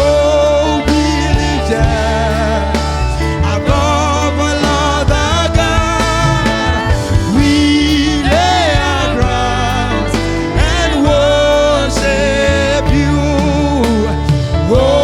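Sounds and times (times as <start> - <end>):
heavy bass and drum beat: 0.0 - 15.0
wavering melodic line: 0.0 - 15.0
wordless singing: 0.0 - 15.0.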